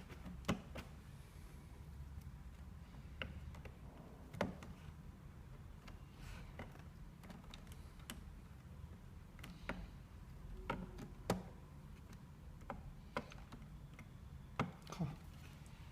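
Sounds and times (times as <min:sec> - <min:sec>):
low steady hum: 0:00.9 - 0:15.9.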